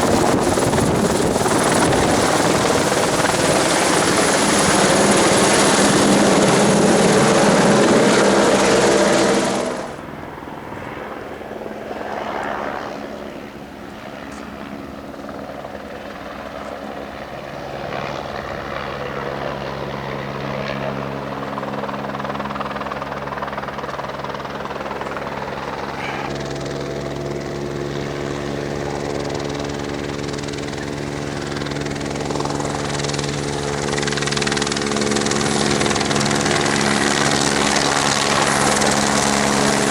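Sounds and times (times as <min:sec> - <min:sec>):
helicopter droning: 0:00.0 - 0:39.9.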